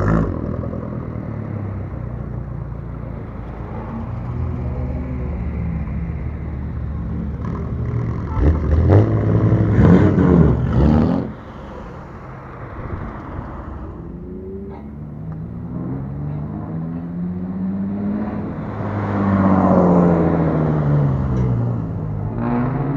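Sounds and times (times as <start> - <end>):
car engines idling and revving: 0.0 - 22.9
engine accelerating: 3.1 - 22.9.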